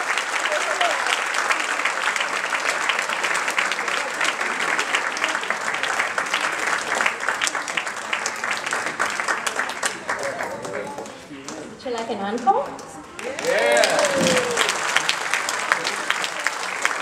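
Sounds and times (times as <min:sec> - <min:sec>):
audience applause: 0:00.0 - 0:11.8, 0:12.4 - 0:17.0.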